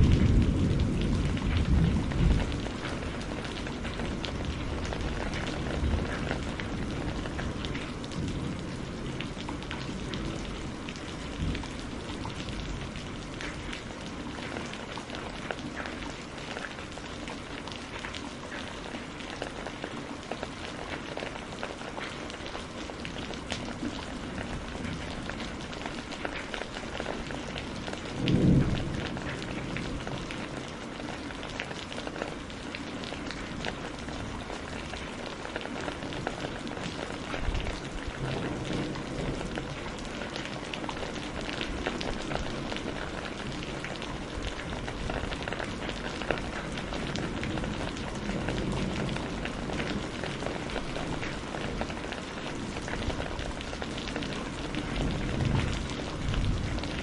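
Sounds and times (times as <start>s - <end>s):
thunder rumbling: 0.0s - 16.4s, 23.2s - 31.2s, 33.3s - 57.0s
steady rain falling: 0.0s - 57.0s.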